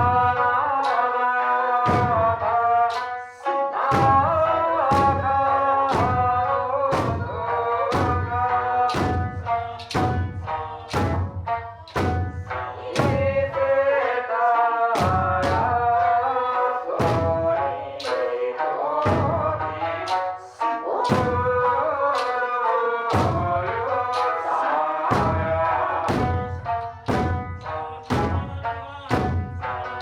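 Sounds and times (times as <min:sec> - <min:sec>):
taiko drums struck in unison: 0:00.0 - 0:01.0, 0:01.8 - 0:03.2, 0:03.9 - 0:13.8, 0:15.0 - 0:16.2, 0:17.0 - 0:20.3, 0:21.0 - 0:22.5, 0:23.1 - 0:24.5, 0:25.1 - 0:30.0.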